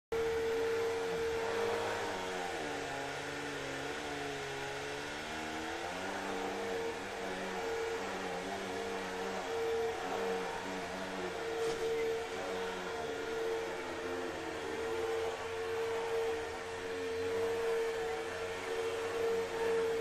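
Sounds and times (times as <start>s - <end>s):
vacuum cleaner running: 0.1s - 20.0s.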